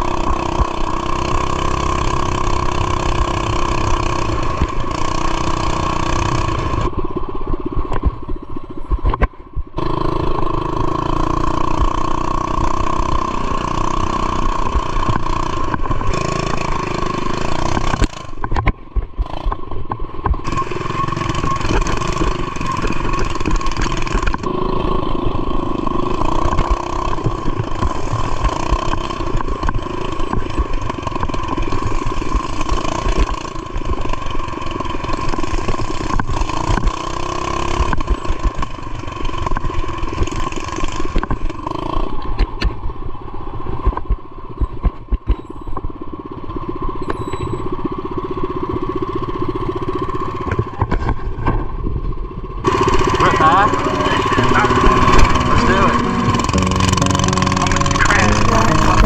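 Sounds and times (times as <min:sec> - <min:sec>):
mini bike engine running: 0:00.0 - 0:07.0, 0:09.8 - 0:42.6, 0:44.0 - 0:51.7, 0:52.4 - 0:59.0.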